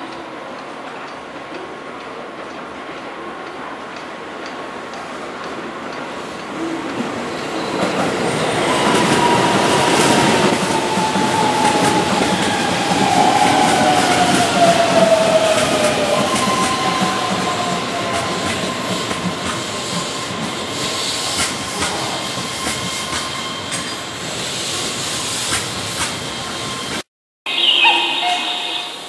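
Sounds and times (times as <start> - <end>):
train wheels on rails: 0.0 - 27.1
train whine: 0.0 - 29.0.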